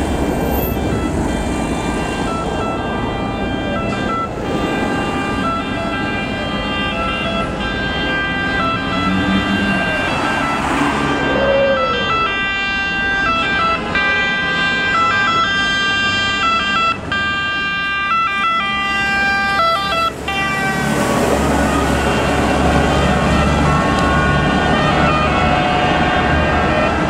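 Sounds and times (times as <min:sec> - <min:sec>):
truck diesel engine: 0:00.0 - 0:27.0
two-tone siren: 0:00.4 - 0:27.0.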